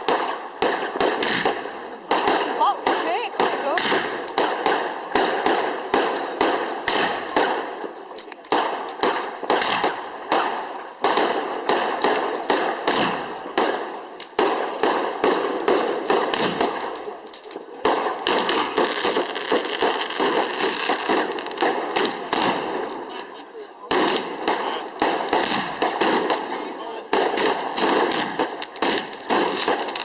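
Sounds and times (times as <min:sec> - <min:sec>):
fireworks crackling: 0:00.0 - 0:30.0.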